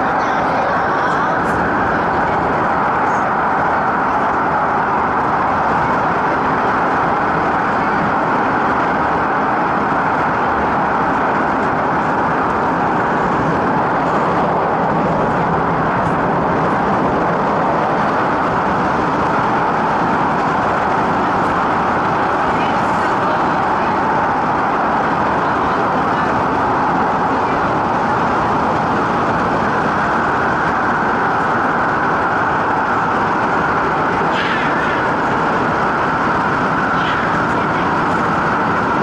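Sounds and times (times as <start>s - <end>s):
train traction hum: 0.0s - 39.0s
train wheels on rails: 0.0s - 39.0s.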